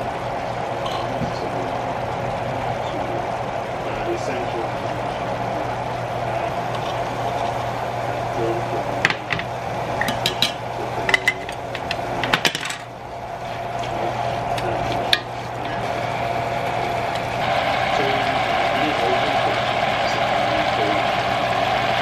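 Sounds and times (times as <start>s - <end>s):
background hum: 0.0s - 22.0s.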